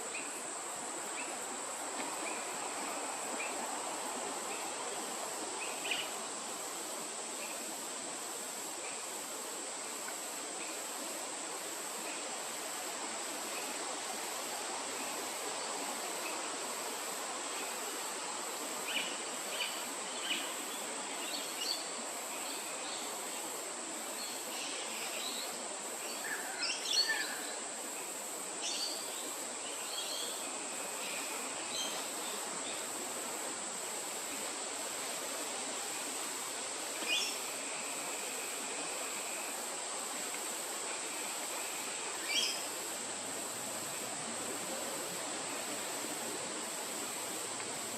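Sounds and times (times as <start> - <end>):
high insect drone: 0.0 - 47.9
outdoor background hiss: 0.0 - 47.9.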